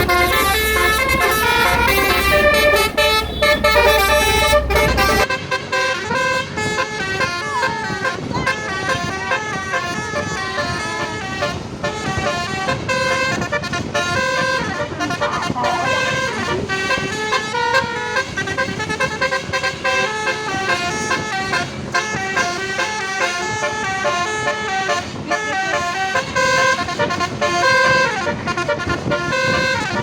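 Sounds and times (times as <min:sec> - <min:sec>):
bus melody horns playing: 0:00.0 - 0:30.0.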